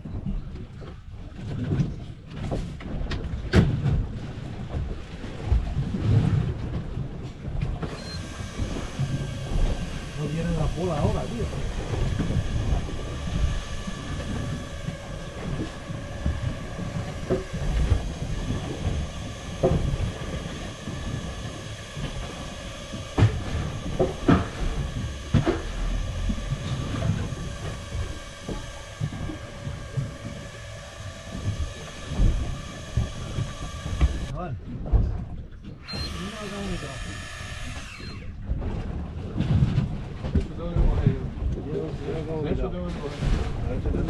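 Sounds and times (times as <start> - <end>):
boat engine hum and rumble: 0.0 - 44.0.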